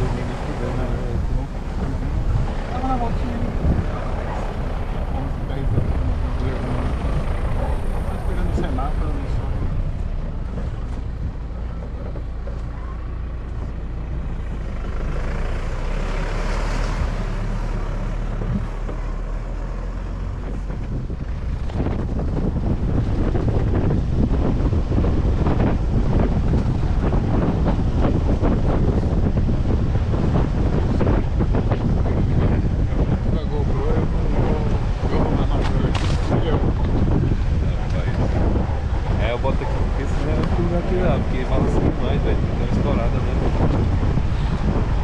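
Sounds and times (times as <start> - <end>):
steady low rumble: 0.0 - 45.0
wind buffeting microphone: 0.0 - 45.0.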